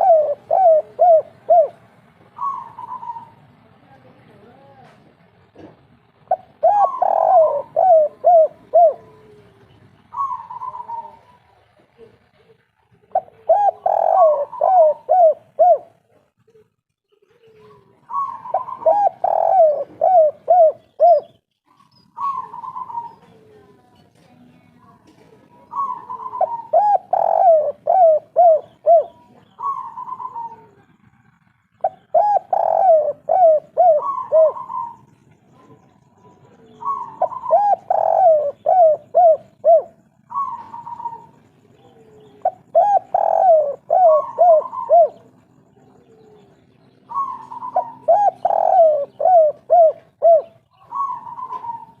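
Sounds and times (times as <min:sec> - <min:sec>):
dove cooing song: 0:00.0 - 0:03.7, 0:06.0 - 0:23.9, 0:24.9 - 0:52.0.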